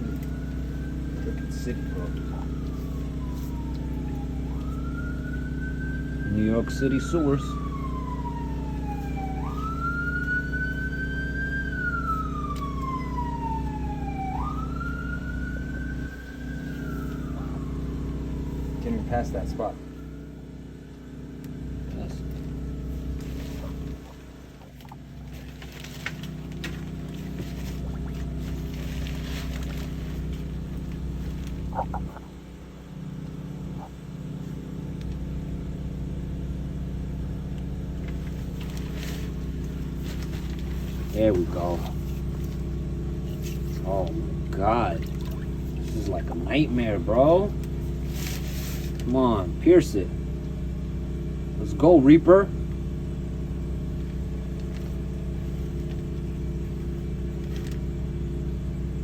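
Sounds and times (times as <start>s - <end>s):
water jetter engine and pump: 0.0s - 59.0s.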